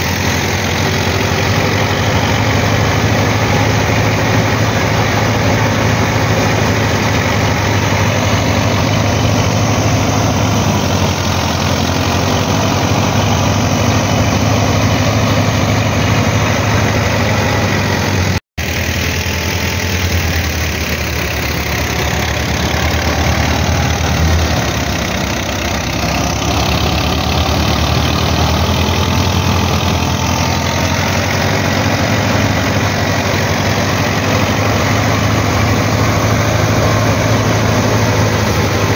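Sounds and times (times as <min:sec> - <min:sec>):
thresher drum and blower rushing: 0:00.0 - 0:38.9
tractor diesel engine under load: 0:00.0 - 0:38.9.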